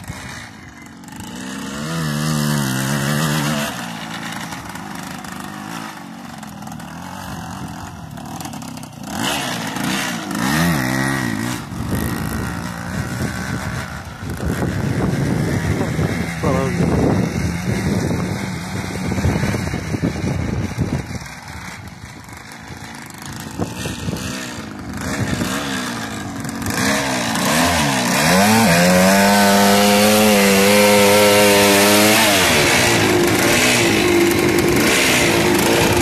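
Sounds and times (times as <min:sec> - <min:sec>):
motocross bike engine revving: 0:00.0 - 0:36.0.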